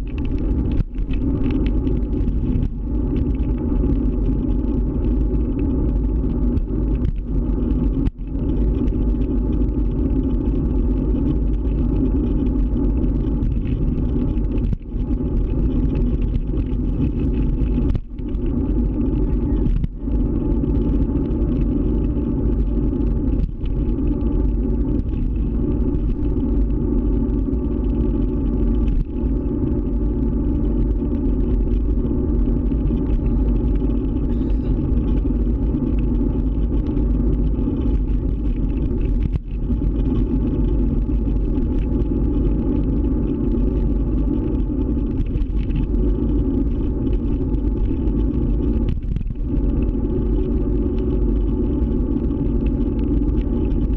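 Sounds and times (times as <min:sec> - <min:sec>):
scooter engine rumble: 0:00.0 - 0:50.6.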